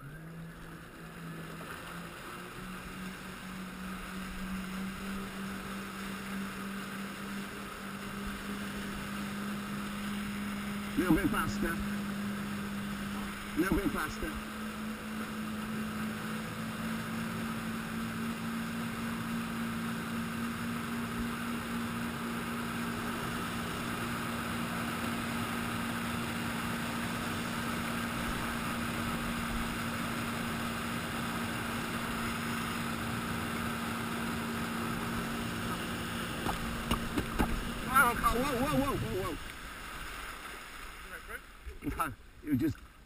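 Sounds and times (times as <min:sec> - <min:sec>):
churning wake rushing: 0:00.0 - 0:43.0
jet ski engine humming: 0:00.0 - 0:43.0.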